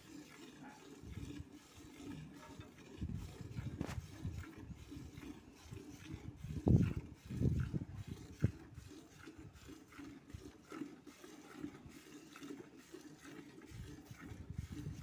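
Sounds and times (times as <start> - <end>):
milk squirts hitting bucket: 0.0 - 15.0.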